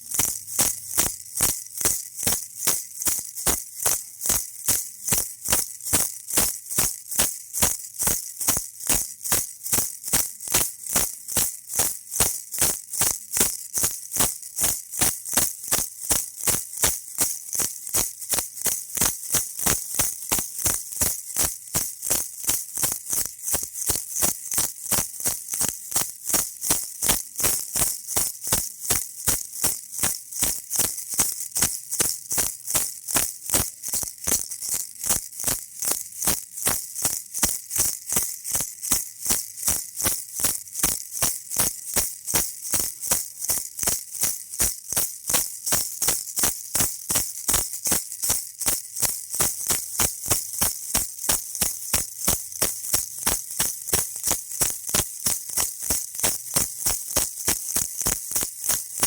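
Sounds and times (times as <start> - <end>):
baby rattle shaking: 0.0 - 59.0.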